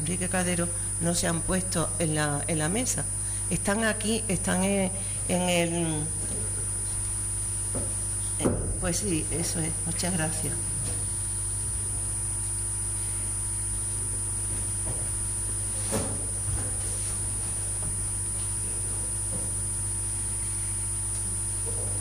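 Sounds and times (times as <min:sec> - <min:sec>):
electrical mains hum: 0:00.0 - 0:22.0
thin high whine: 0:00.0 - 0:22.0.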